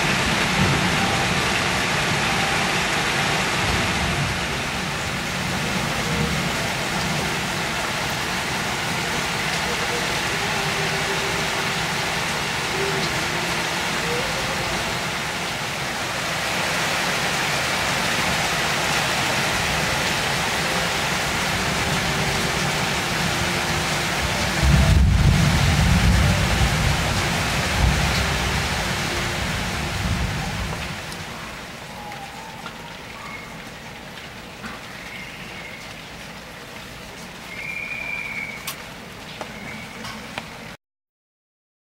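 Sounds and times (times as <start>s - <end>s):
rain falling on leaves: 0.0s - 40.8s.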